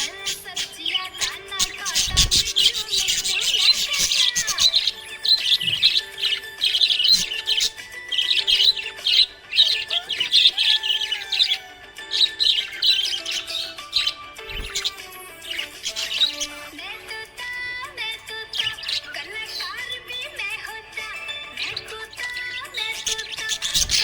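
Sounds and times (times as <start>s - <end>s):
faint background music: 0.0s - 24.0s
parrots chirping and warbling: 0.0s - 24.0s.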